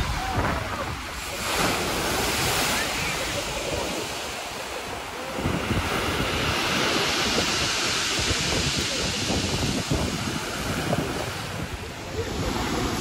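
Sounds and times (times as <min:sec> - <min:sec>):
surf breaking on pebble beach: 0:00.0 - 0:13.0
wind buffeting microphone: 0:00.0 - 0:13.0.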